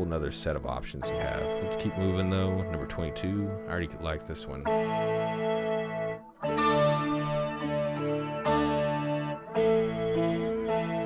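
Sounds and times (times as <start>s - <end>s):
sustained synth guitar chords: 0.0s - 11.0s.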